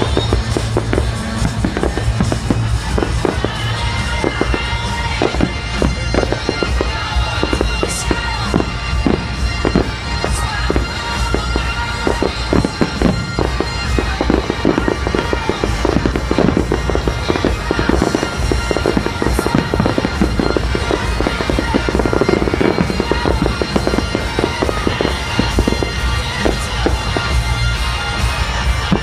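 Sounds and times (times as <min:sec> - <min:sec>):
fireworks bangs and crackles: 0:00.0 - 0:29.0
music playing: 0:00.0 - 0:29.0.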